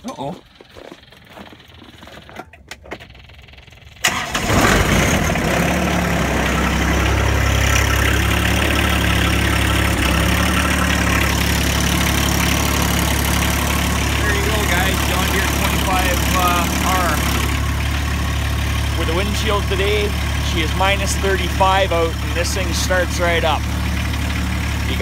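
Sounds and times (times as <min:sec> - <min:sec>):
diesel engine starting and idling: 0:00.2 - 0:25.0.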